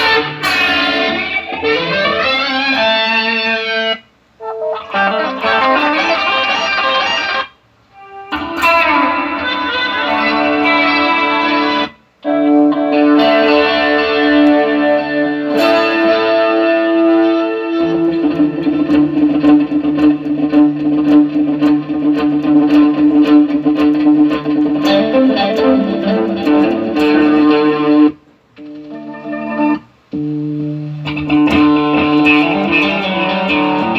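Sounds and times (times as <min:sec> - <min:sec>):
electric guitar playing: 0:00.0 - 0:33.9.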